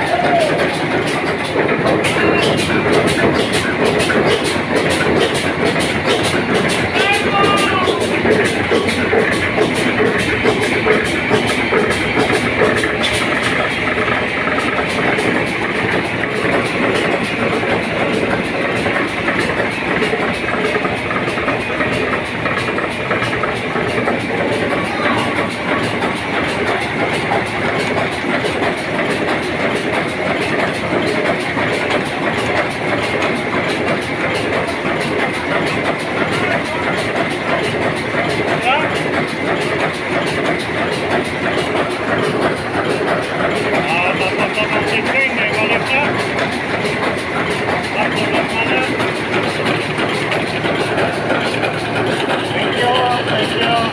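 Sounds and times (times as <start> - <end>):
heavy machinery running: 0.0 - 53.9.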